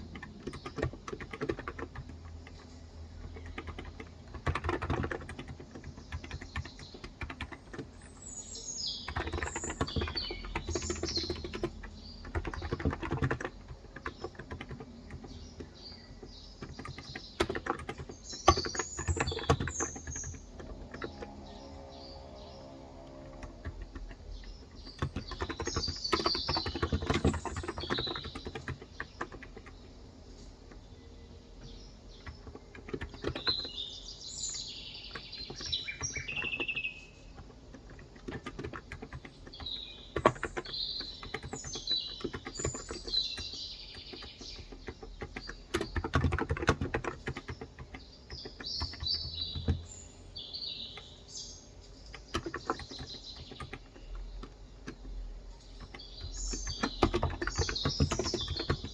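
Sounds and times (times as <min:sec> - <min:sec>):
birds chirping: 0:00.0 - 0:58.9
soft keyboard typing: 0:00.0 - 0:58.9.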